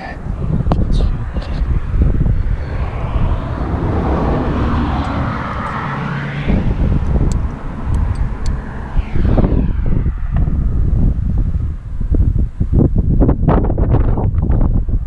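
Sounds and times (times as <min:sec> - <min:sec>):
vehicle engine passing by: 0:00.0 - 0:12.5
wind rumble on microphone: 0:00.0 - 0:15.0.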